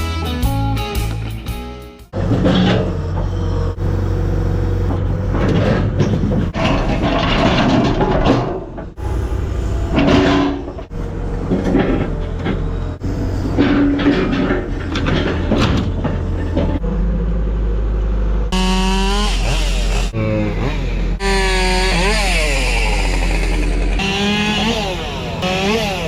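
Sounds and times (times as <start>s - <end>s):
excavator engine working: 2.1s - 26.0s.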